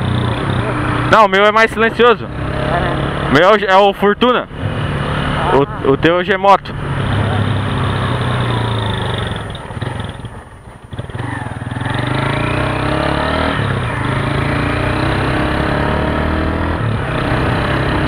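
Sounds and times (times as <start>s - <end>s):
motorcycle engine accelerating: 0.0s - 6.1s, 6.7s - 18.0s.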